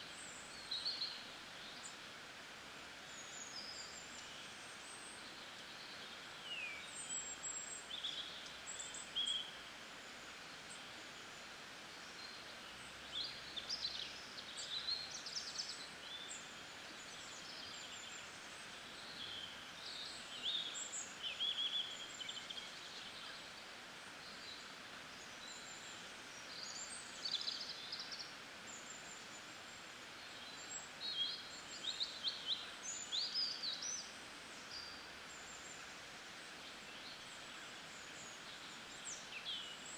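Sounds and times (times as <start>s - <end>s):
faint outdoor hiss: 0.0s - 39.9s
songbirds chirping: 0.0s - 39.9s.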